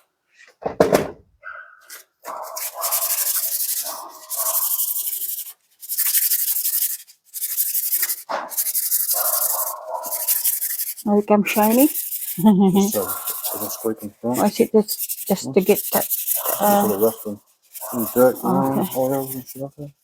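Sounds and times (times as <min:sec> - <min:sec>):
sandpaper rubbing on metal: 0:01.9 - 0:20.0.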